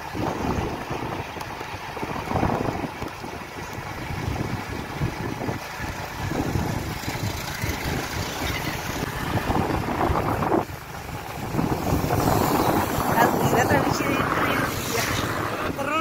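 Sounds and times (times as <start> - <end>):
vehicle rumbling along road: 0.0 - 16.0
wind buffeting microphone: 0.0 - 16.0.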